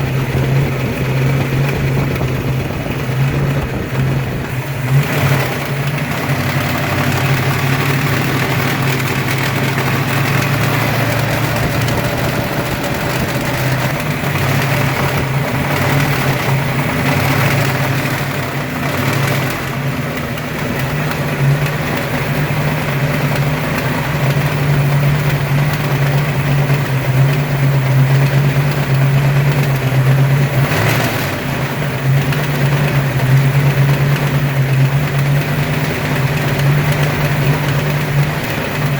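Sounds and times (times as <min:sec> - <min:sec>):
engine idling: 0:00.0 - 0:38.9
mechanical noise in engine: 0:00.0 - 0:38.9.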